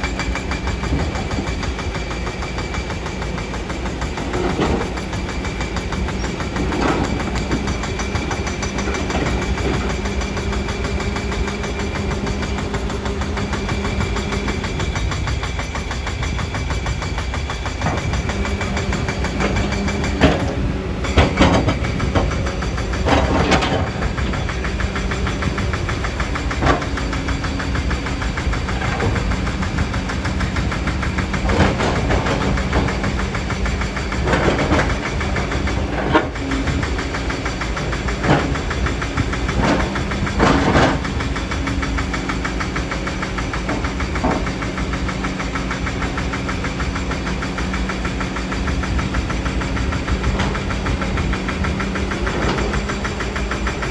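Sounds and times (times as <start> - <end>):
excavator bucket knocking: 0.0 - 15.6, 17.5 - 53.9
excavator diesel engine running: 0.0 - 53.9.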